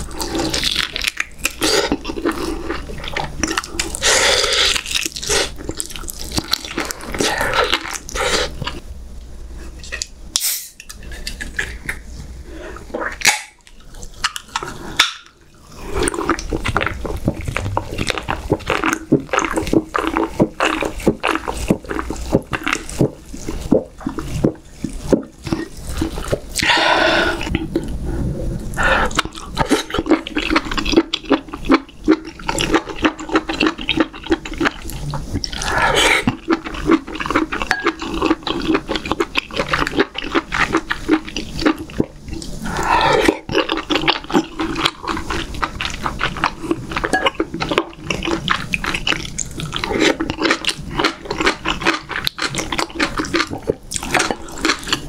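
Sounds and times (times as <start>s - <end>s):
wet chewing and smacking: 0.0s - 8.8s, 13.0s - 26.7s, 29.0s - 55.0s.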